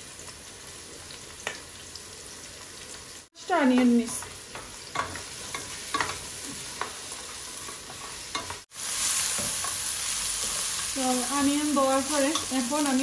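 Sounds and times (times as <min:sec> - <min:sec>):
onions sizzling: 0:00.0 - 0:13.0.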